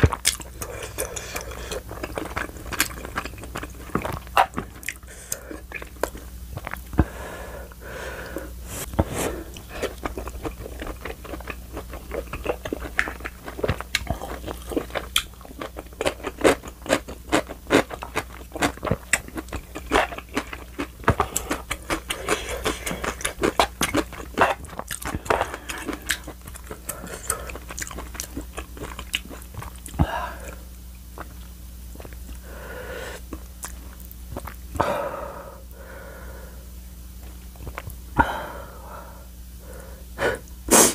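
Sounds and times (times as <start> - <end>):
wet chewing mouth sounds: 0.0 - 7.1, 9.0 - 32.4, 33.3 - 34.8, 37.2 - 38.0.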